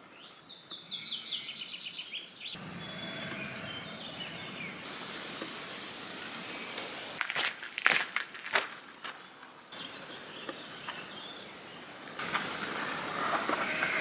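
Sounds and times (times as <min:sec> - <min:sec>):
cricket trilling: 0:02.6 - 0:14.0.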